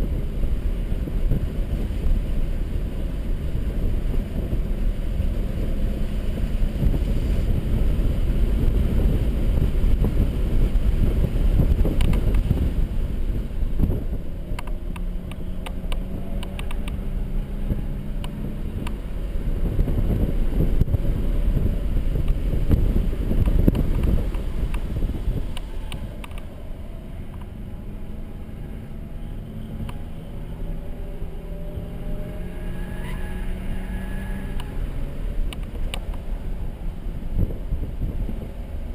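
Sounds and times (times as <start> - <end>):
car engine revving: 0.0 - 38.9
road and wind noise: 0.0 - 38.9.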